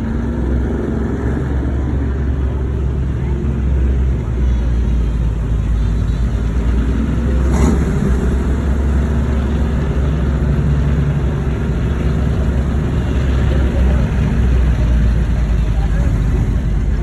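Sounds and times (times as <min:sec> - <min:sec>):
cars driving by: 0:00.0 - 0:17.0.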